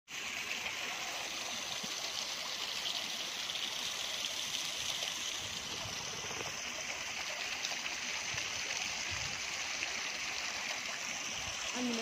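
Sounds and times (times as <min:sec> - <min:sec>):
steady outdoor rushing hiss: 0:00.2 - 0:12.0.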